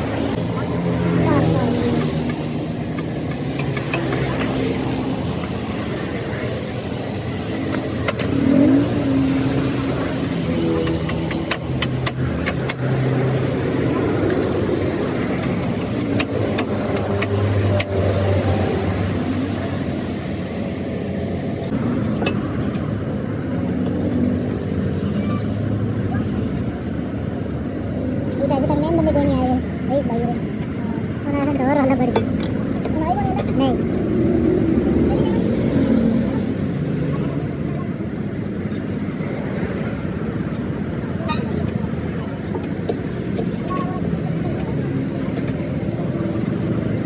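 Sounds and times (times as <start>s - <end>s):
vehicle engines running: 0.0s - 47.0s.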